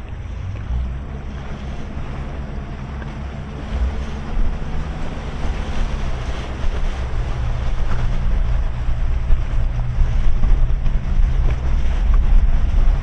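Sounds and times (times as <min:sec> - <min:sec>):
outboard engines humming: 0:00.0 - 0:13.0
rushing water: 0:00.0 - 0:13.0
wind: 0:00.0 - 0:13.0.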